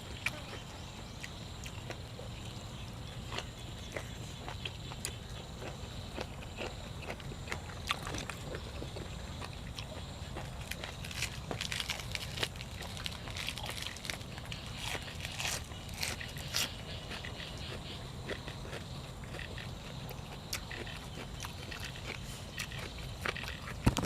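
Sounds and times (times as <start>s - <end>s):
crunching and wet chewing: 0.0s - 24.0s.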